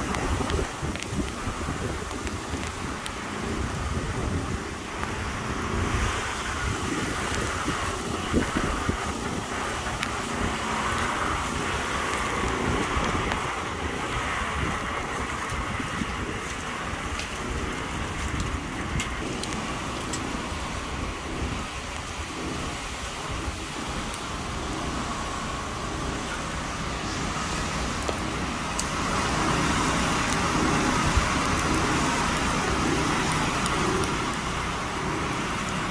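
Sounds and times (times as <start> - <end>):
wind and rain rushing: 0.0 - 35.9
wind buffeting microphone: 0.0 - 35.9.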